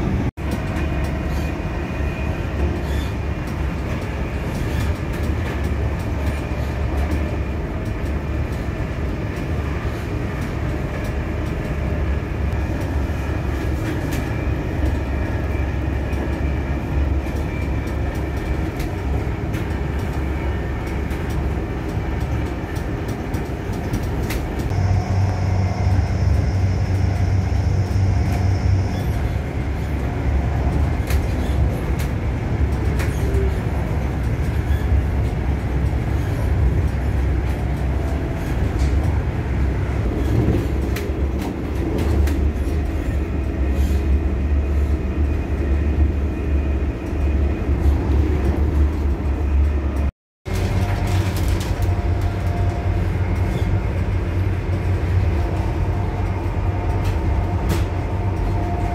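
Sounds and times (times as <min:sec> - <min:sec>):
diesel train engines droning: 0:00.0 - 0:58.9.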